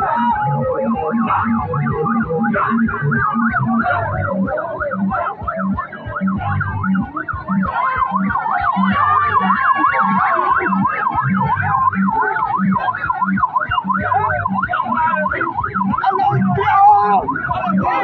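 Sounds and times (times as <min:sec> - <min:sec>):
steady low beat: 0:00.0 - 0:18.0
vehicle siren yelping: 0:00.0 - 0:18.0.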